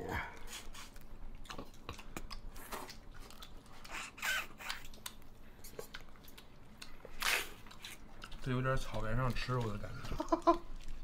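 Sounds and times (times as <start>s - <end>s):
chewing and smacking: 0.4s - 11.0s.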